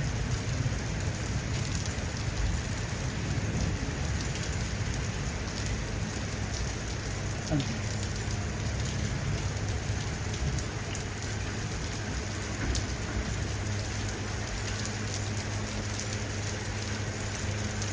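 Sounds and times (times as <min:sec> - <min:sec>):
steady rain falling: 0:00.0 - 0:17.9
raindrop ticks: 0:00.1 - 0:17.9.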